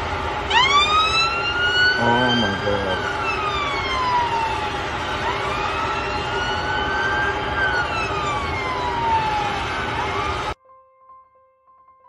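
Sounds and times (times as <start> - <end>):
emergency siren wailing: 0.0 - 10.6.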